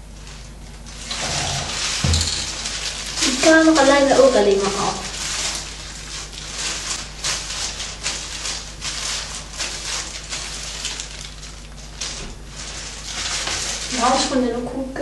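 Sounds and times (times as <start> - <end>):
plastic gloves crinkling: 0.0 - 15.0.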